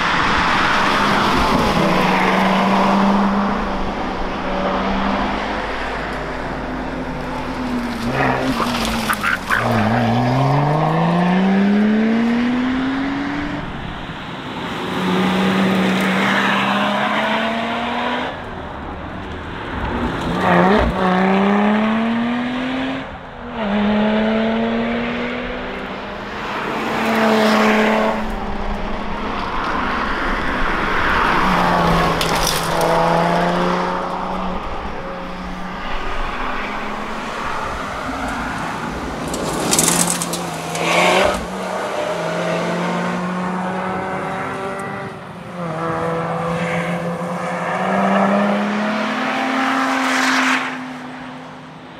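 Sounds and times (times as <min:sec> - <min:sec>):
car accelerating hard: 0:00.0 - 0:13.9, 0:20.4 - 0:50.8.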